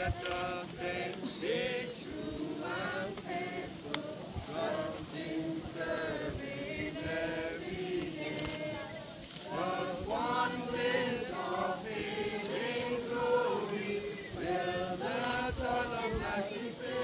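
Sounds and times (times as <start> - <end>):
crowd singing unaccompanied: 0.0 - 17.0.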